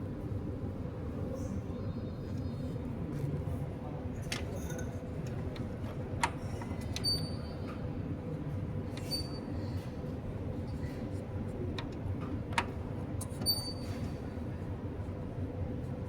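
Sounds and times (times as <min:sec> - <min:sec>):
copier humming and rumbling: 0:00.0 - 0:16.0.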